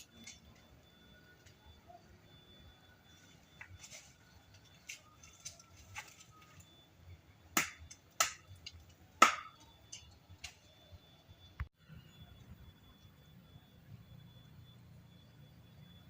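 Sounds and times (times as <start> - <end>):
faint steady high tone: 0.0 - 16.0.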